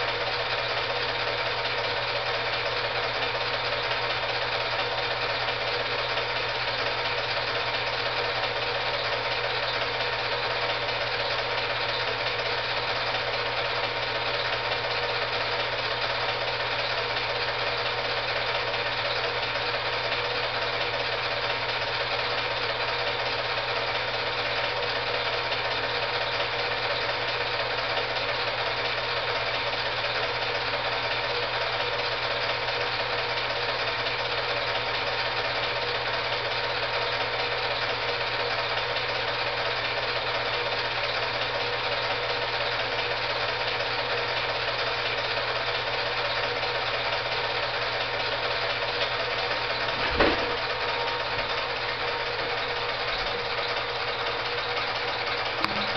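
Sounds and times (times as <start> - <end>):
film projector whirring: 0.0 - 55.9.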